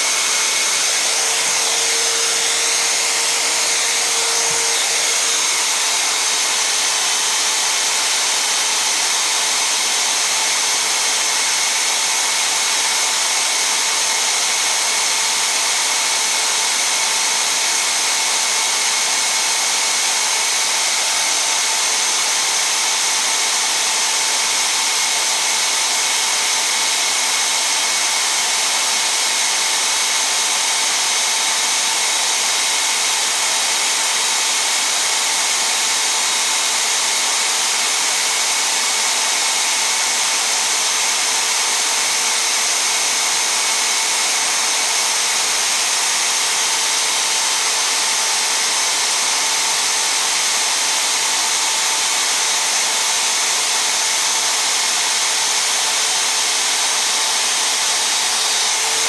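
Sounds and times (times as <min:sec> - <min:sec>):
drill press motor whining: 0:00.0 - 0:59.0.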